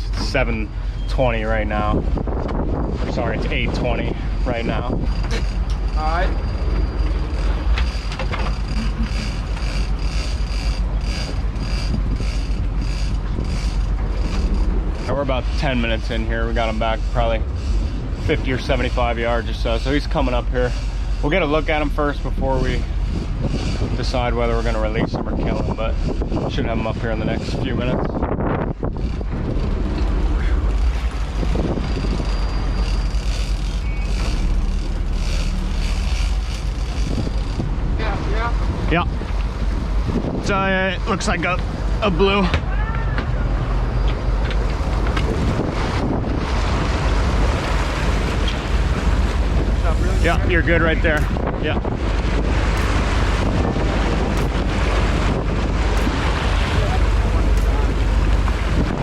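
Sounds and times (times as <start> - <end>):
boat engine idling: 0.0 - 59.0
fishing reel whirring: 3.4 - 40.2, 43.6 - 59.0.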